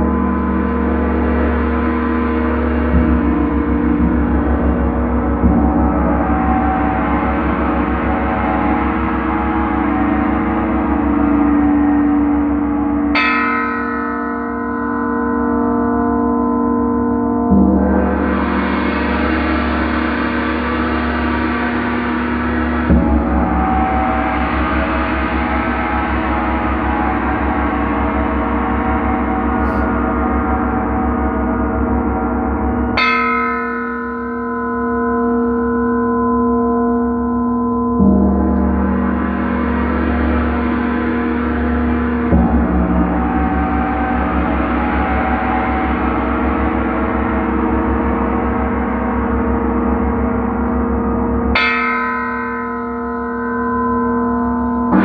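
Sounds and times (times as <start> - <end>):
gongs ringing: 0.0 - 55.0.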